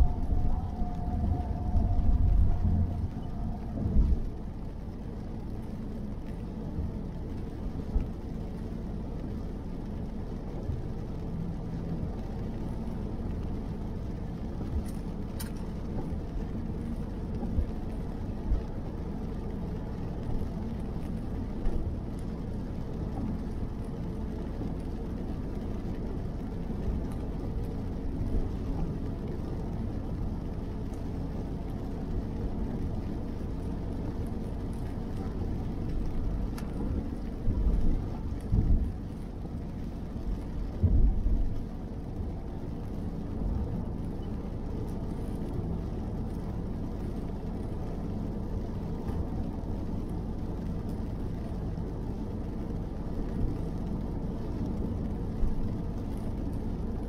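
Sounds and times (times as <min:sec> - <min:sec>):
car tyre noise on wet road: 0:00.0 - 0:57.0.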